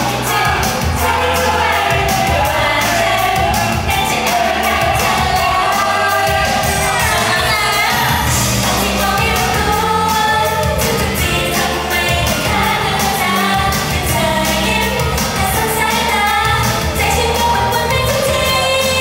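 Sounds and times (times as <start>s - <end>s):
dance beat and bass: 0.0s - 19.0s
women singing pop song: 0.0s - 19.0s.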